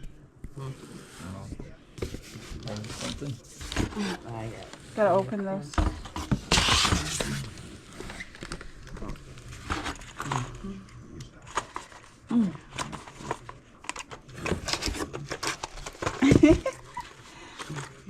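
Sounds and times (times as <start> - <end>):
packaging crinkling and rustling: 2.0 - 5.2, 5.8 - 10.6, 11.4 - 18.0.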